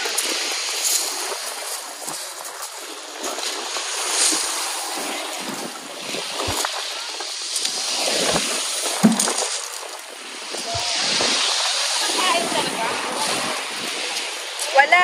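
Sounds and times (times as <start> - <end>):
waves breaking on shingle: 0.0 - 15.0.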